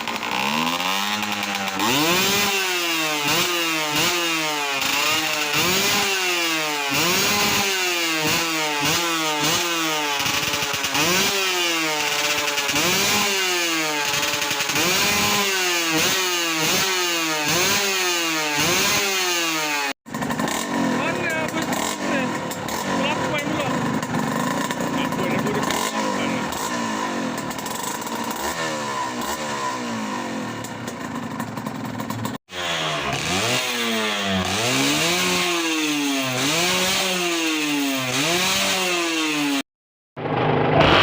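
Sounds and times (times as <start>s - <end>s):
two-stroke engine revving: 0.0s - 41.0s.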